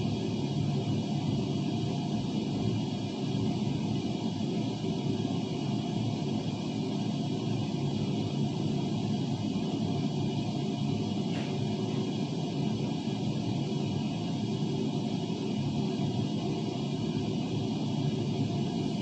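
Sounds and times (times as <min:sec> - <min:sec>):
exhaust fan rushing: 0:00.0 - 0:19.0.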